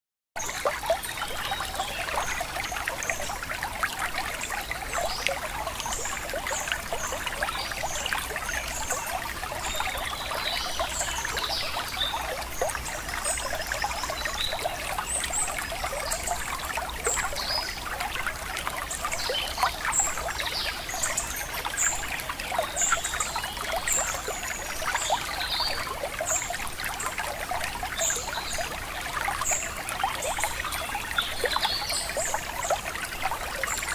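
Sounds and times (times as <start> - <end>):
river water trickling and splashing: 0.4 - 33.9.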